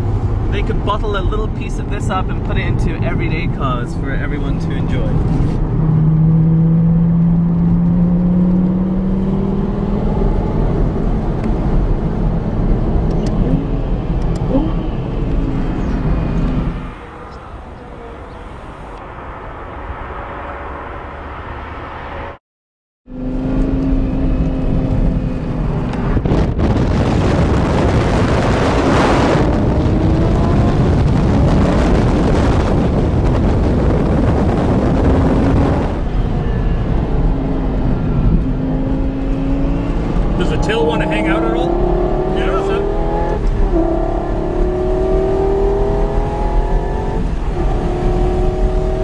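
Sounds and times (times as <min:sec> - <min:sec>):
car engine revving: 0:00.0 - 0:18.6, 0:23.1 - 0:49.0.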